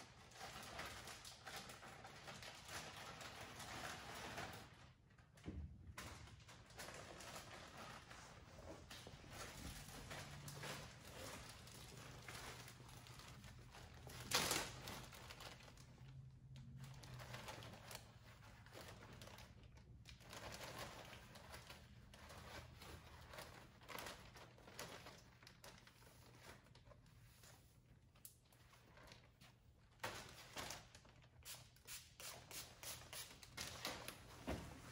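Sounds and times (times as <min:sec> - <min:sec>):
plastic bag rustling and crinkling: 0:00.0 - 0:31.5.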